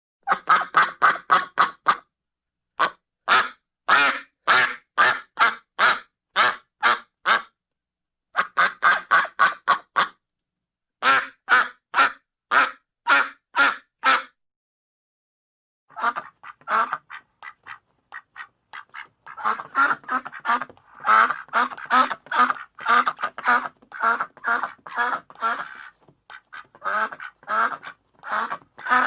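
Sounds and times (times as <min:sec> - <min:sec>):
duck quacking: 0:00.3 - 0:02.1, 0:02.8 - 0:07.5, 0:08.4 - 0:10.2, 0:11.0 - 0:14.4, 0:15.9 - 0:29.0.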